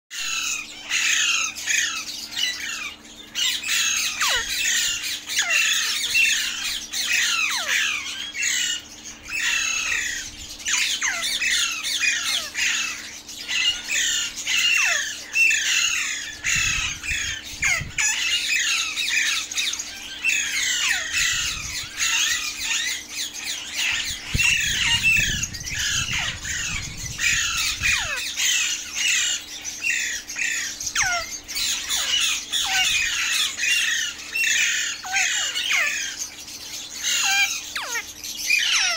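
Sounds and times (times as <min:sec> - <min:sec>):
parakeets squawking: 0:00.1 - 0:38.9.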